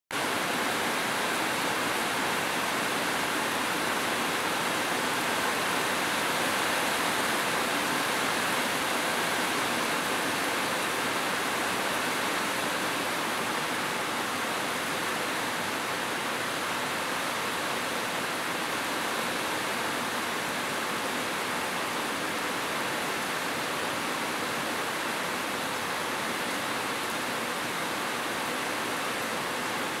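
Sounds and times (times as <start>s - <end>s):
heavy rain on metal roofs: 0.1s - 30.0s.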